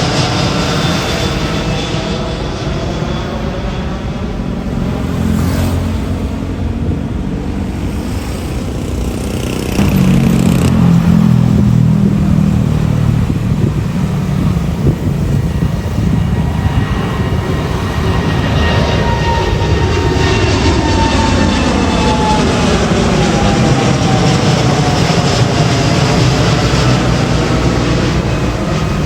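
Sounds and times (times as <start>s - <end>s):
jet engines rumbling at takeoff: 0.0s - 29.0s.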